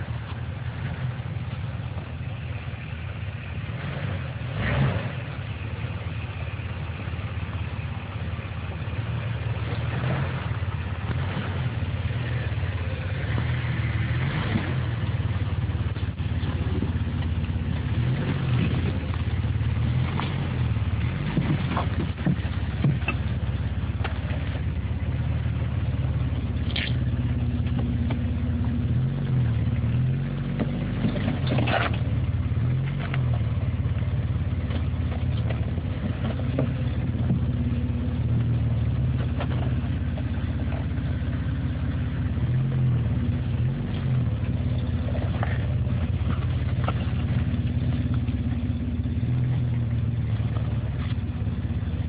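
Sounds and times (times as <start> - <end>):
engine running at low revs: 0.0 - 52.0.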